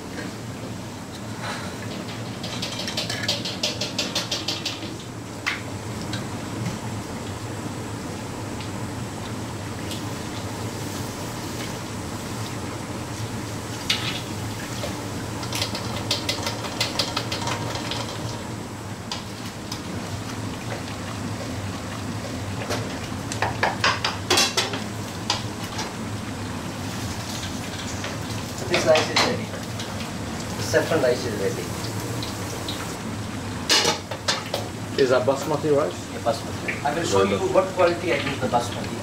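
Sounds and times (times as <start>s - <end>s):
food deep-frying in oil: 0.0s - 39.0s.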